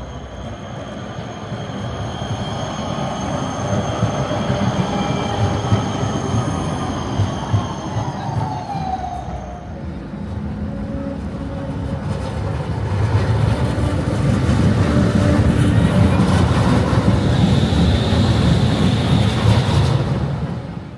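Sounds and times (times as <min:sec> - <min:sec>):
tram wheels rumbling on rails: 0:00.0 - 0:20.9.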